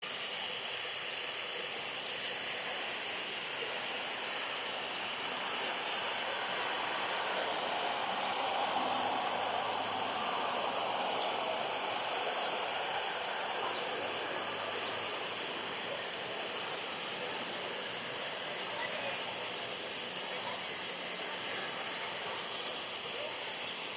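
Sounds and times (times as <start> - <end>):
steady high-pitched hiss: 0.0 - 23.9.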